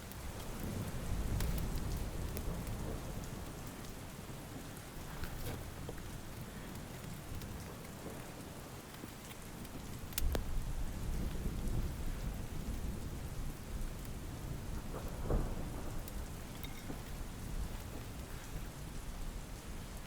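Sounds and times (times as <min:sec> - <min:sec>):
steady rain falling: 0:00.0 - 0:20.0
thunder crack and rumble: 0:00.2 - 0:06.5, 0:09.6 - 0:20.0.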